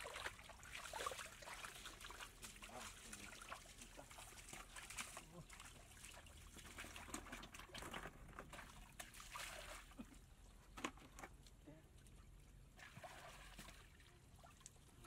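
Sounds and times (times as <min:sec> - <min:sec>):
wading splashes: 0:00.0 - 0:10.3, 0:12.6 - 0:15.0
water trickling and sloshing: 0:00.0 - 0:15.0.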